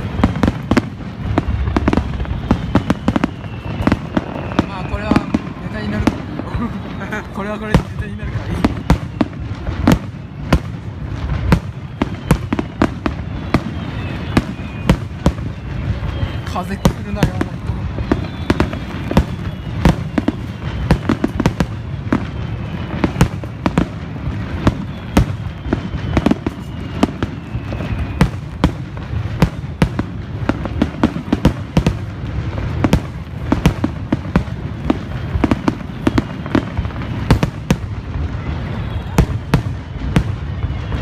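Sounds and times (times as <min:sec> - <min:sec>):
fireworks whistling: 0:00.0 - 0:41.0.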